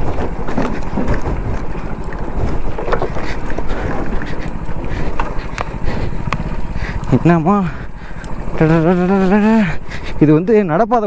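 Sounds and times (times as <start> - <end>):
wind buffeting microphone: 0.0 - 10.4
motorcycle engine running slowly: 0.0 - 11.0
motorcycle rattling over rocks: 0.0 - 11.0.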